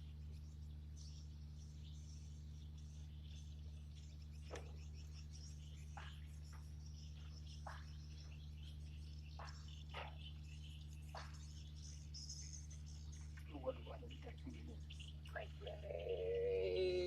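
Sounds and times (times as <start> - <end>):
insect chorus chirring: 0.0 - 17.0
low hum: 0.0 - 17.0.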